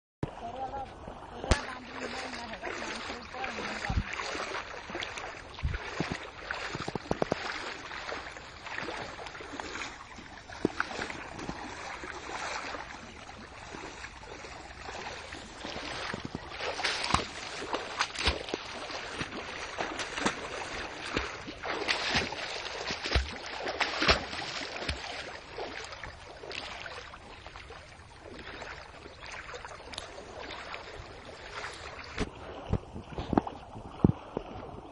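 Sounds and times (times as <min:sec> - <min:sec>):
floodwater rushing and splashing: 0:00.2 - 0:34.9.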